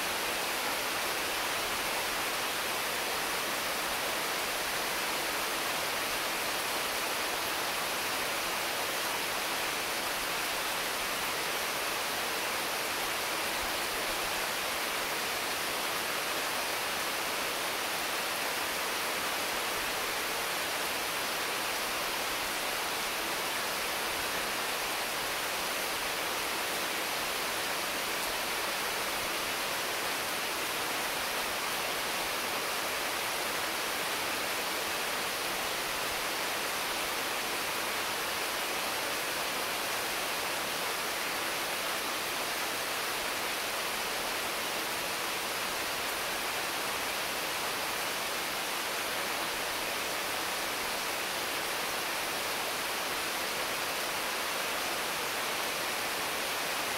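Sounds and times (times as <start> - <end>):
intense rain on trees: 0.0 - 56.9.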